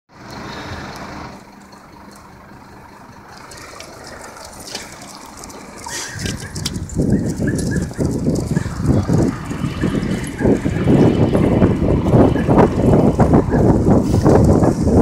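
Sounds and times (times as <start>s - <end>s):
engine idling: 0.1s - 15.0s
street traffic noise: 0.1s - 15.0s.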